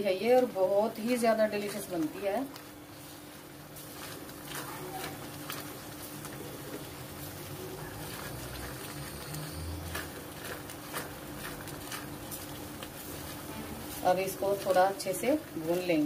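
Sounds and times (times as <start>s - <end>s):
stirring bubbling gravy: 1.5s - 16.0s.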